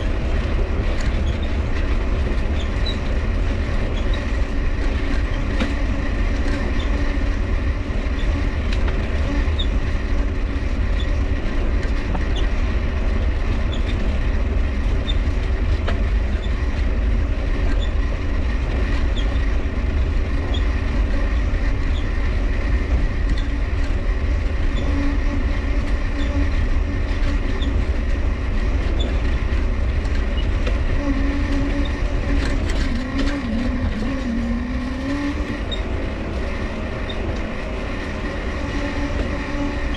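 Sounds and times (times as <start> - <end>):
tyres rolling rumble: 0.0 - 39.9.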